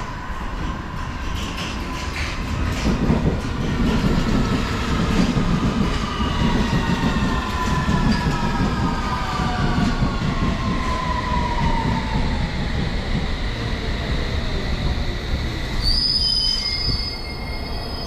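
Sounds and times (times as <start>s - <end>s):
train rumbling into station: 0.0s - 18.0s.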